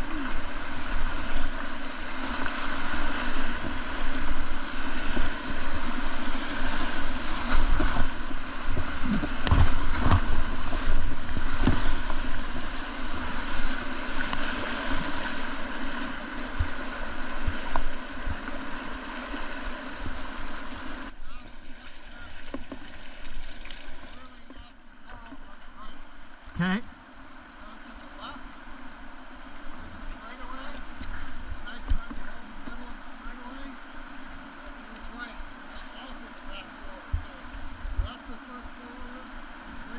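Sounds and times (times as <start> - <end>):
river water rushing: 0.0 - 22.0, 24.9 - 39.9.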